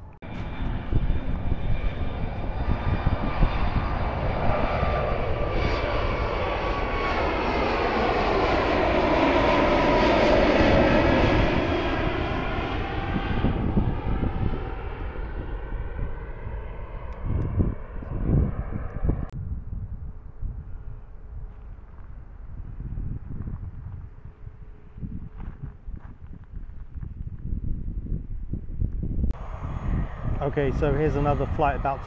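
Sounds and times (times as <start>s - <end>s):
jet airliner engine roar: 0.0s - 26.1s, 27.0s - 32.0s.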